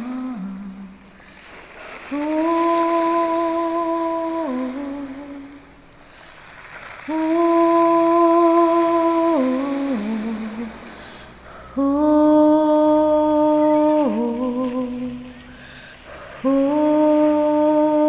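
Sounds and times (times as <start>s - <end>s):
person humming slow melody: 0.0s - 1.1s, 2.1s - 5.7s, 7.1s - 18.0s.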